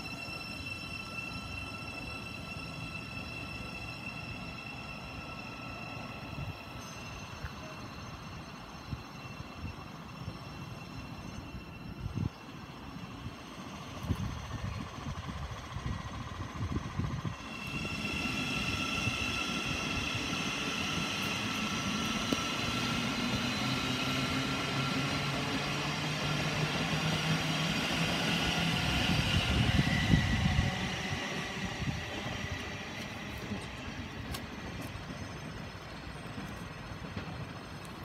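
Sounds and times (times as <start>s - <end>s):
electric train motors whining: 0.0s - 38.0s.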